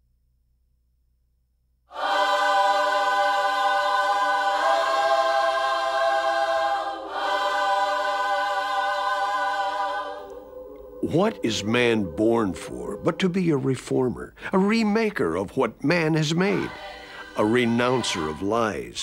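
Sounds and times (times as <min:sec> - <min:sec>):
choir singing held chords: 0:01.9 - 0:14.6, 0:15.3 - 0:19.0.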